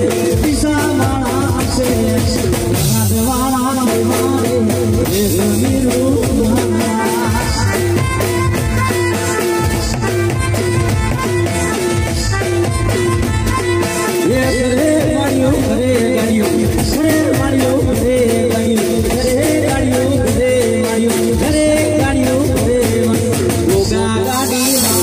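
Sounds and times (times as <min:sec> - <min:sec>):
band playing dance beat: 0:00.0 - 0:25.0
man singing: 0:00.0 - 0:25.0.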